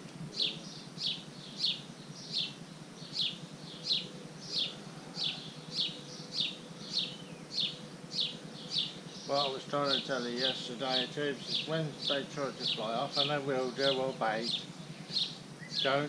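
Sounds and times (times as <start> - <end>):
eagle chirping: 0.3 - 16.0.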